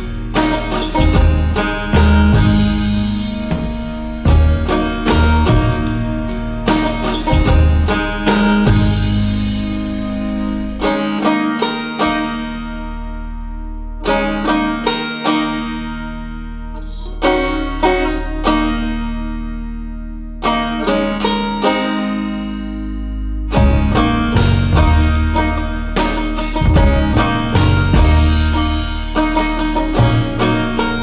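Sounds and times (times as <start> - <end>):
plucked string music with bass: 0.0 - 31.0.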